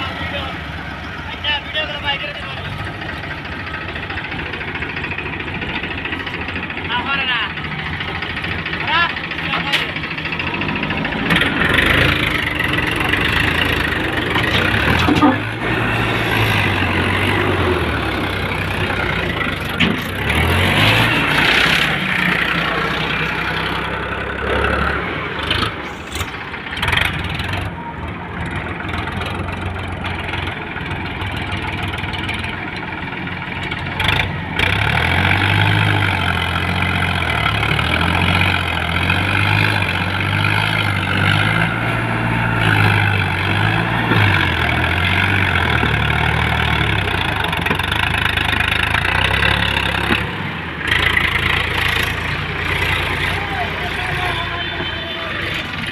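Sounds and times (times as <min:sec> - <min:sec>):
heavy machinery diesel engine: 0:00.0 - 0:55.9.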